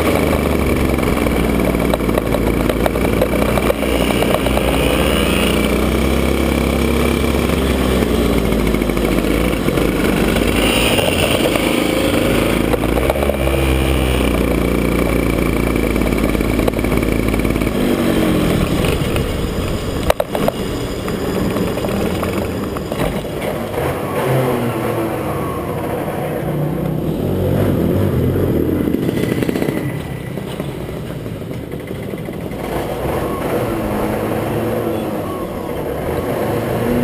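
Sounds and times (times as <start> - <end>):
kart engine running: 0.0 - 37.0.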